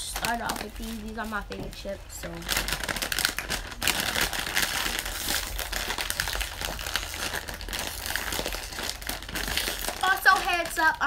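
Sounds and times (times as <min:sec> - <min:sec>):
foil chip bag crinkling: 0:00.0 - 0:11.0.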